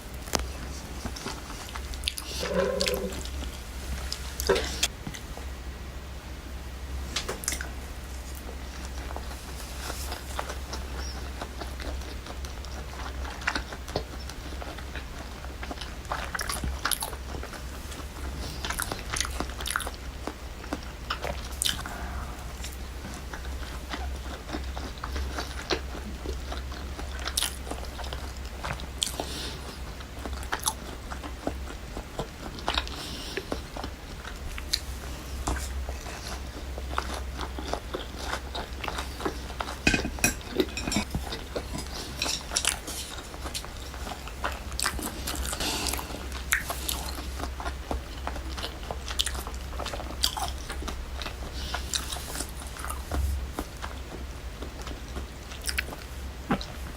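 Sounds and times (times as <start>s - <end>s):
chewing crispy fried chicken: 0.0s - 5.5s, 6.9s - 56.9s.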